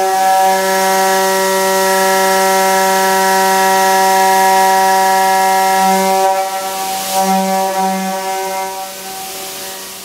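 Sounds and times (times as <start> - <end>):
high-pitched cutter whine: 0.0 - 10.0.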